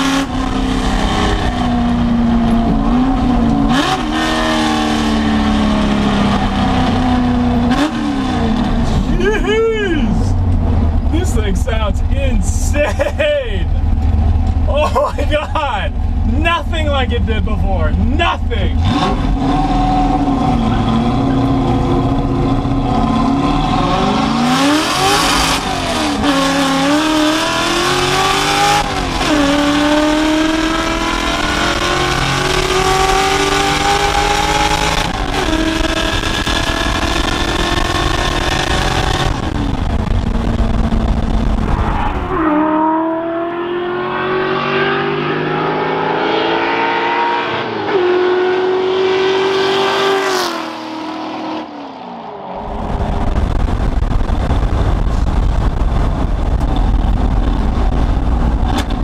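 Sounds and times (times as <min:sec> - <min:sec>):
truck engine accelerating: 0:00.0 - 0:59.0.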